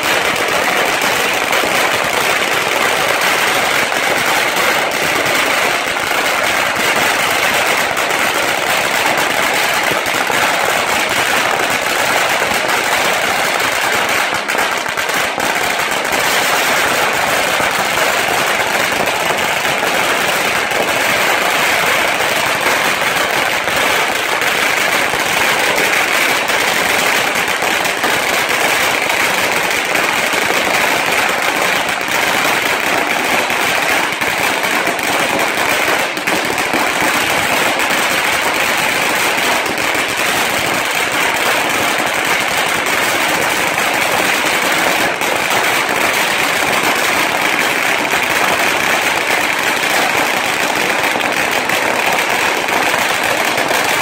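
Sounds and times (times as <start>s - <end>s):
firecrackers crackling: 0.0s - 54.0s.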